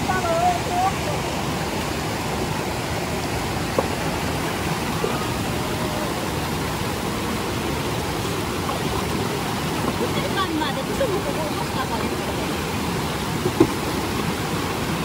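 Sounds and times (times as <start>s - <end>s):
stream rushing over boulders: 0.0s - 15.0s.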